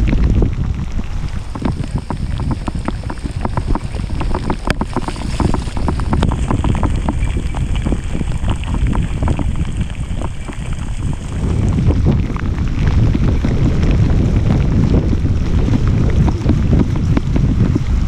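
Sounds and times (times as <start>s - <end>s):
wind buffeting microphone: 0.0s - 18.0s
bike clicks and knocks on rough trail: 1.4s - 18.0s.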